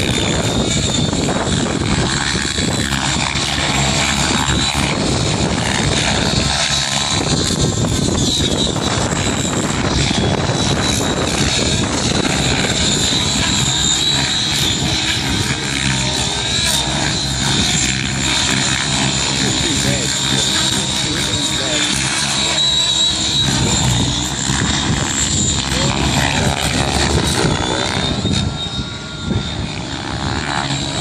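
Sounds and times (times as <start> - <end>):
model helicopter whine: 0.0 - 31.0.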